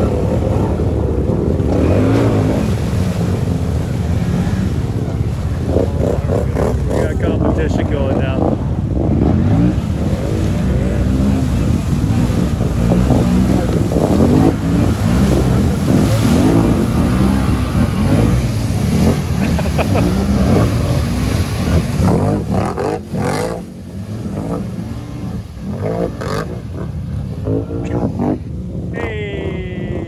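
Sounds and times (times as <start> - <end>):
atv engines revving: 0.0 - 30.0
water rushing and spraying: 0.0 - 30.0.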